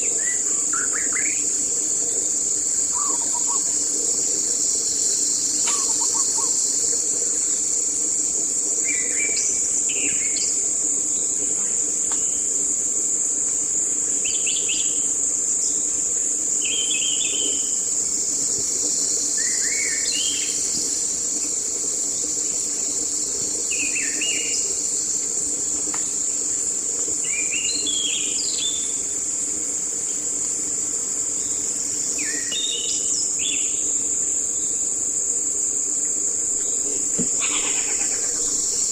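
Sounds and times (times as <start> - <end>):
insect chorus drone: 0.0 - 38.9.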